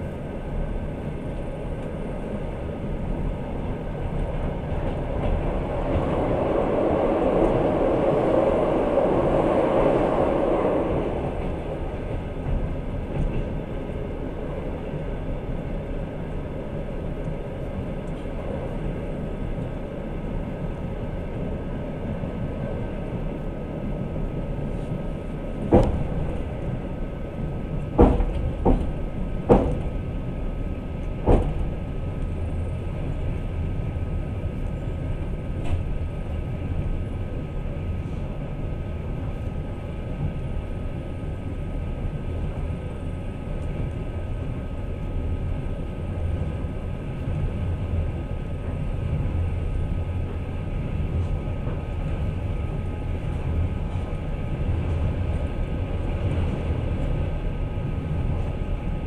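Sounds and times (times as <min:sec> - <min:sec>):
train carriage rumble: 0:00.0 - 0:59.0.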